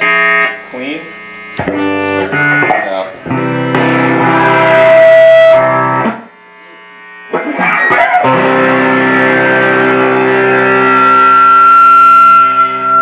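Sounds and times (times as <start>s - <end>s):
electric guitar chords: 0.0s - 13.0s.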